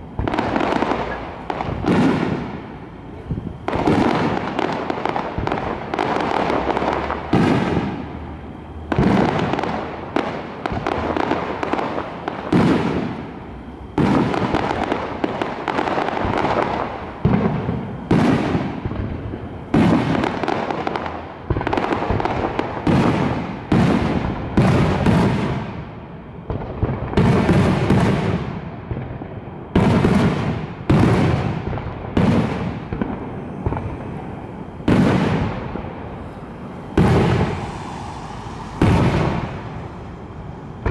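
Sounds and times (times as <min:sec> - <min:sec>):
firework shells booming: 0:00.1 - 0:40.9.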